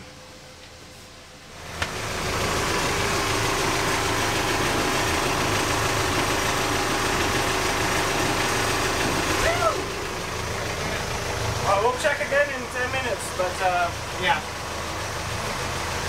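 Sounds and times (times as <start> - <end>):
diesel engine idling: 1.1 - 16.0.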